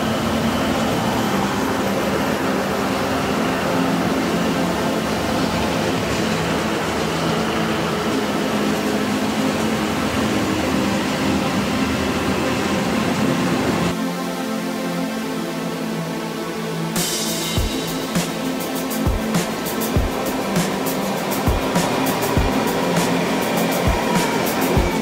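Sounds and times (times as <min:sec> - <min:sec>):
diesel locomotive engines droning: 0:00.0 - 0:14.0, 0:17.0 - 0:25.0
music: 0:00.0 - 0:25.0.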